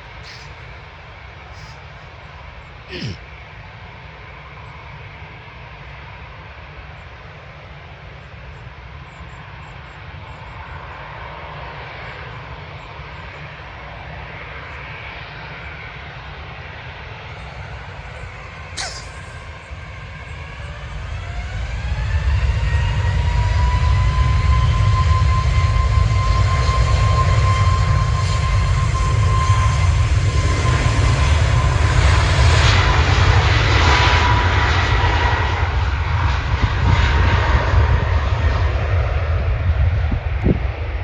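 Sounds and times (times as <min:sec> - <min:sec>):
jet engine roar: 0:00.0 - 0:41.0
jet engine whine: 0:00.0 - 0:41.0.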